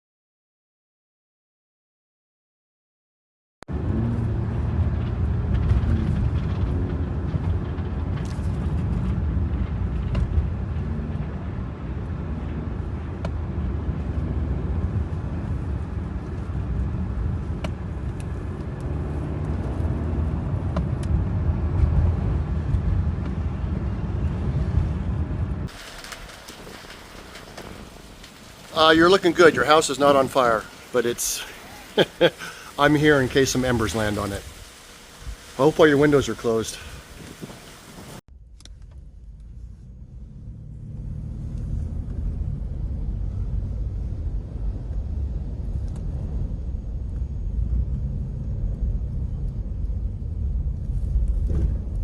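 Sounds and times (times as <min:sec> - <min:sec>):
vehicle road and engine rumble: 0:03.7 - 0:52.0.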